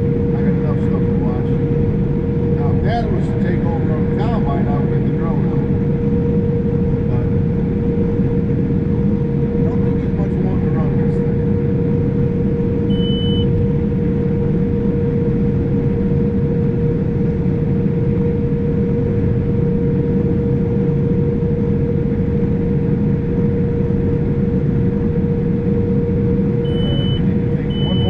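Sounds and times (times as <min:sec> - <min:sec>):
combine harvester droning: 0:00.0 - 0:19.4, 0:23.3 - 0:28.0.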